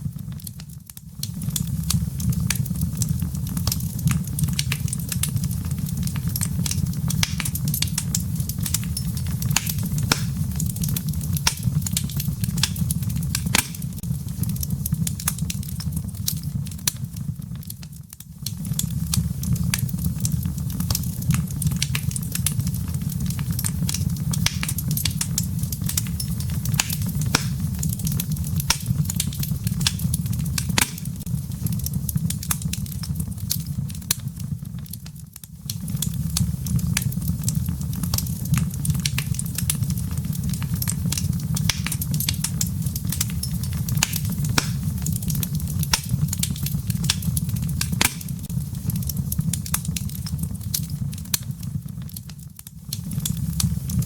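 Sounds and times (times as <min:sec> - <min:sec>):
fire rumbling: 0:00.0 - 0:54.0
firewood crackling and popping: 0:00.0 - 0:54.0.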